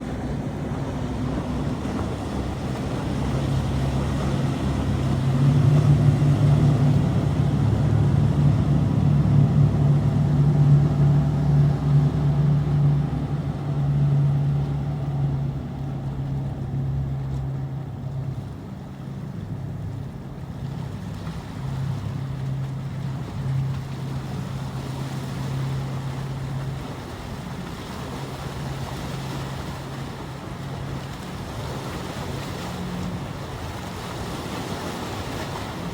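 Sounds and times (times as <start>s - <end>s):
motorboat engine droning: 0.0s - 35.9s.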